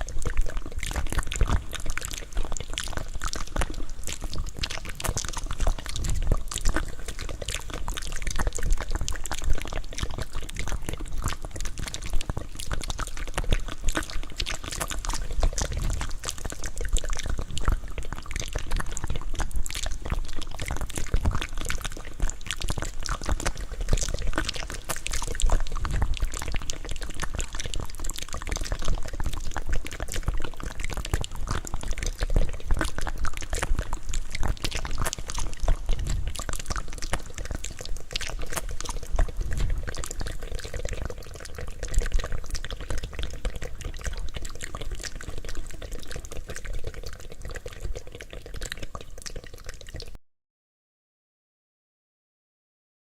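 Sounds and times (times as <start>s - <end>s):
wet mouth clicks and smacks: 0.0s - 50.2s.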